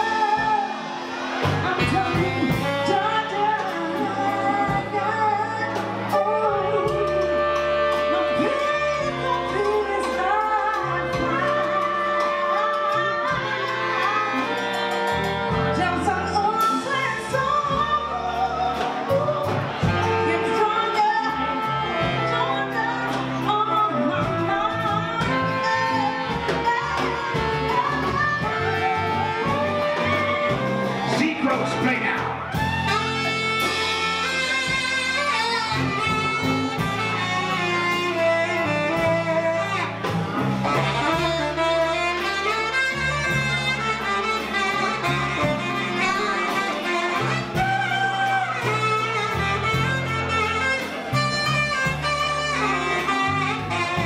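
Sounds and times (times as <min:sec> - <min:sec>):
drums: 0:00.0 - 0:54.0
electric bass: 0:00.0 - 0:54.0.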